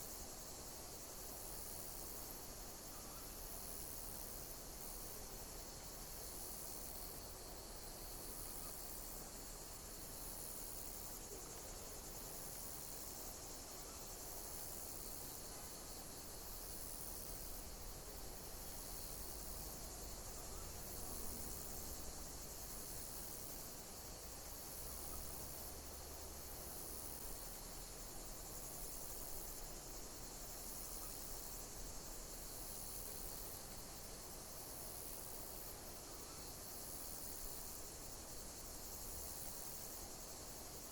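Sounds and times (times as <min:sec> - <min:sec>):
insects trilling: 0:00.1 - 0:40.9.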